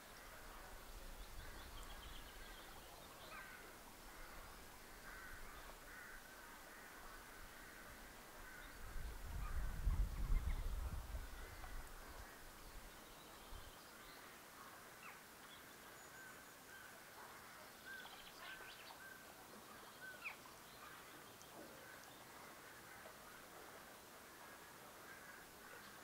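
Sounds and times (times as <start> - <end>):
background hiss: 0.0 - 26.0
faint bird calls: 0.1 - 15.3, 15.9 - 26.0.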